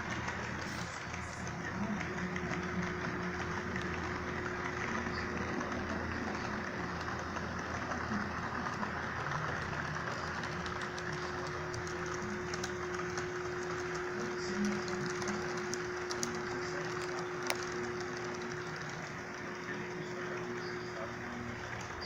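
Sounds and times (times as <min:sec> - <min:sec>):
model train motor hum: 0:00.0 - 0:22.0
thin steady whine: 0:00.0 - 0:22.0.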